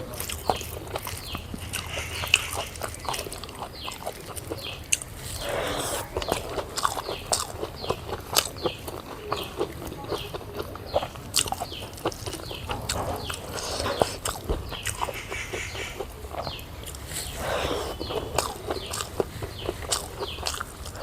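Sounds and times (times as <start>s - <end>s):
chewing and lip-smacking: 0.0s - 21.0s
chickens clucking: 0.0s - 21.0s.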